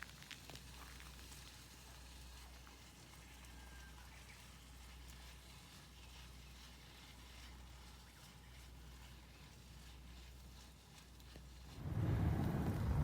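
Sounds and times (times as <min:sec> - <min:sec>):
campfire crackling: 0:00.0 - 0:13.0
low steady hiss: 0:00.0 - 0:13.0.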